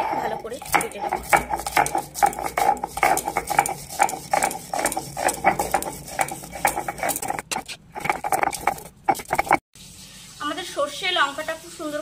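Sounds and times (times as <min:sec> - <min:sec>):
stone grinding on stone slab: 0:00.0 - 0:09.6.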